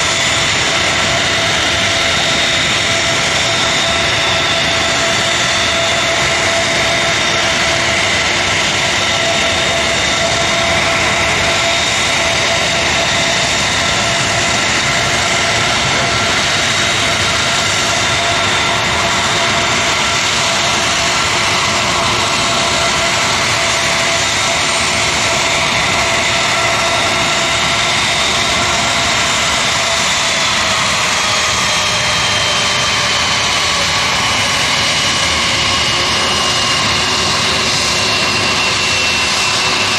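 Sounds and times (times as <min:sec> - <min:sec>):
aircraft turbine engines running: 0:00.0 - 0:39.9.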